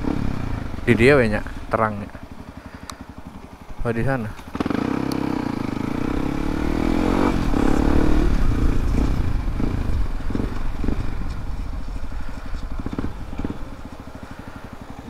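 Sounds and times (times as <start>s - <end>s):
motorcycle engine revving and puttering: 0.0s - 15.0s.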